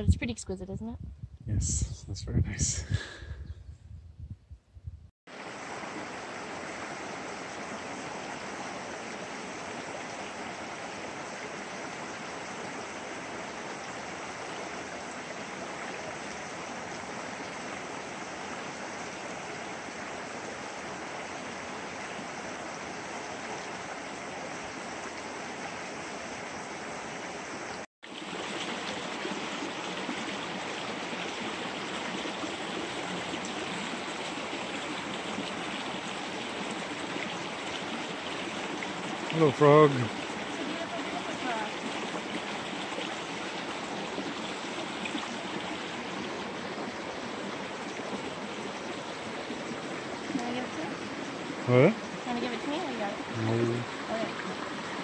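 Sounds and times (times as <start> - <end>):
stream rushing over stones: 5.3 - 55.0.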